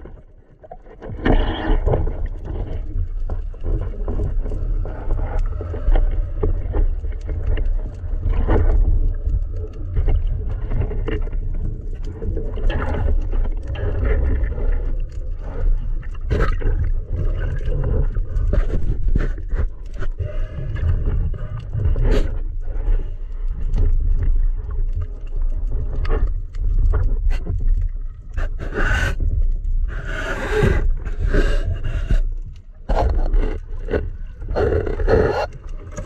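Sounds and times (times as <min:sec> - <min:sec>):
muffled underwater rumble: 0:00.0 - 0:36.0.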